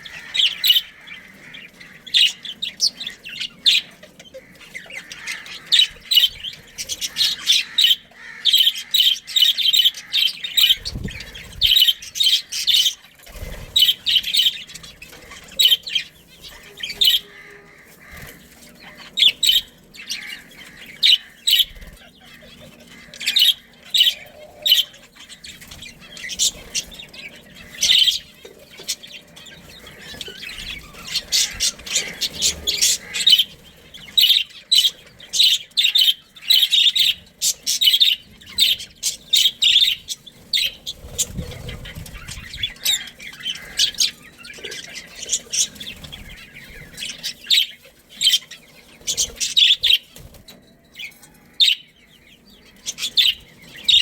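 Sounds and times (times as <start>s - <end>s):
budgerigars chirping: 0.0s - 54.0s.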